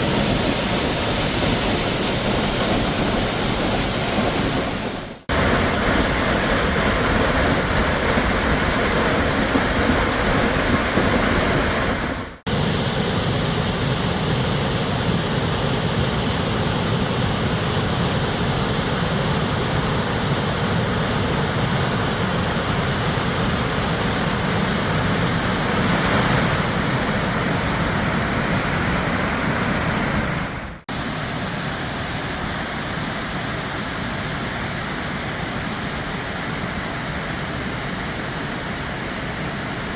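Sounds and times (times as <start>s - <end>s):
waterfall and creek rushing: 0.0s - 39.9s.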